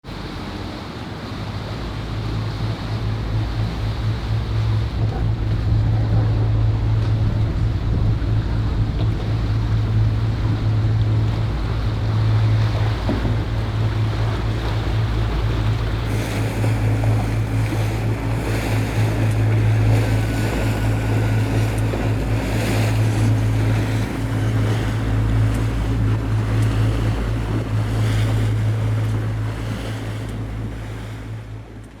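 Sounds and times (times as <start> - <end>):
rushing wind: 0.0 - 31.8
low motor drone: 0.0 - 32.0
water noise: 0.0 - 32.0.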